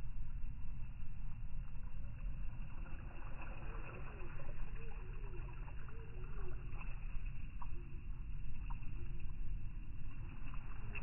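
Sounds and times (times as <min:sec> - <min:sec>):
wind rumble on microphone: 0:00.0 - 0:11.0
water trickling and splashing: 0:00.1 - 0:11.0.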